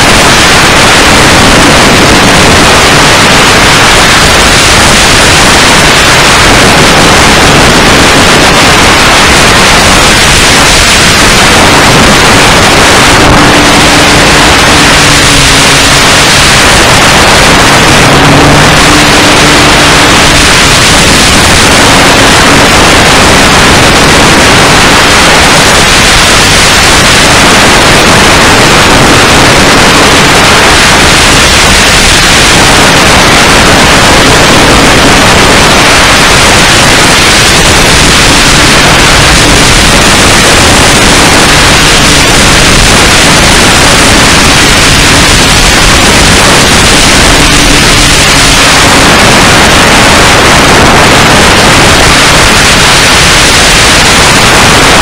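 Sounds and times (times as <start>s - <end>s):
distorted static noise: 0.0s - 55.0s.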